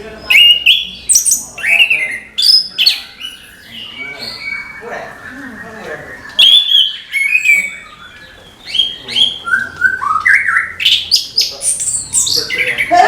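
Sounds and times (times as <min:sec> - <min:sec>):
thrush chirping and whistling: 0:00.2 - 0:13.0.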